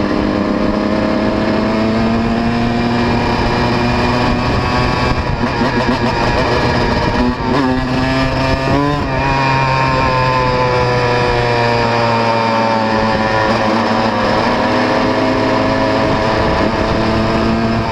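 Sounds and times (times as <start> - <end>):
motocross bike engine: 0.0 - 17.9.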